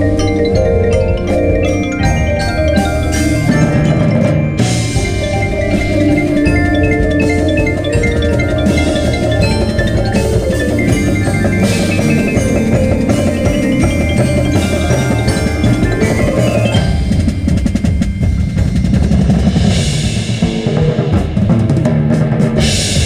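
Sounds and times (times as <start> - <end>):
marimbas vibraphones and xylophones: 0.0 - 21.8, 22.6 - 23.0
cymbals: 0.0 - 23.0
drums: 0.0 - 23.0.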